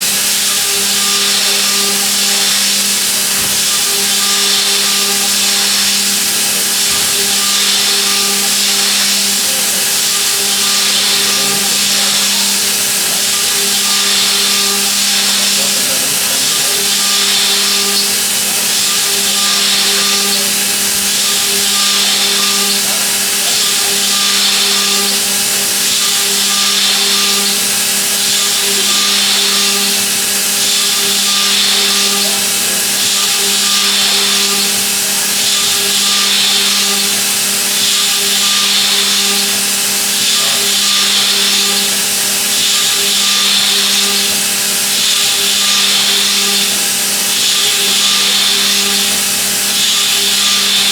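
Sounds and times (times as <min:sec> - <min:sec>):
hiss of metal cutting: 0:00.0 - 0:50.9
milling machine spindle hum: 0:00.0 - 0:50.9.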